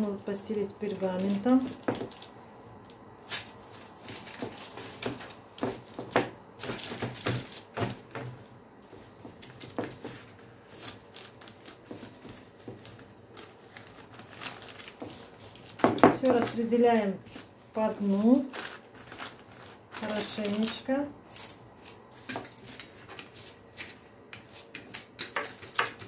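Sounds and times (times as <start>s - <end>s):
parchment rustling on baking tray: 0.0s - 26.0s.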